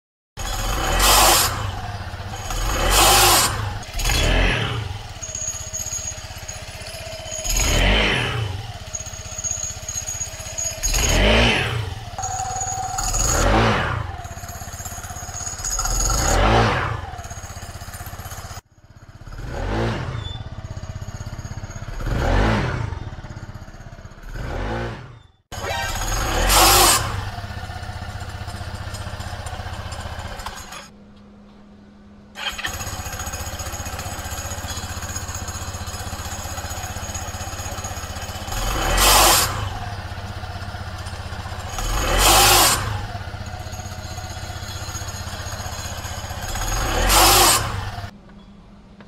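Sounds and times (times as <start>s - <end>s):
scooter engine revving: 0.4s - 30.9s, 32.4s - 48.2s.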